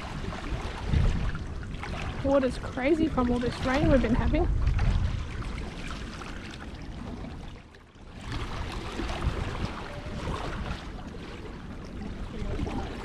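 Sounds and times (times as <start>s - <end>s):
moving water: 0.0s - 13.0s
wind gusting on microphone: 0.0s - 13.0s.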